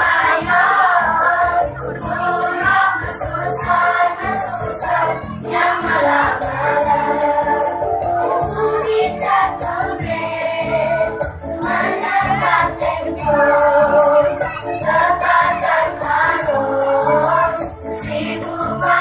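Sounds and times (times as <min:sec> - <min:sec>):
children singing together: 0:00.0 - 0:19.0
music with steady beat: 0:00.0 - 0:19.0.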